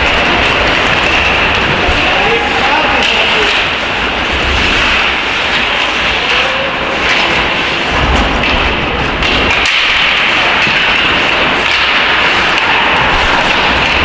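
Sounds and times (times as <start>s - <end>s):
hissing arena noise: 0.0s - 14.0s.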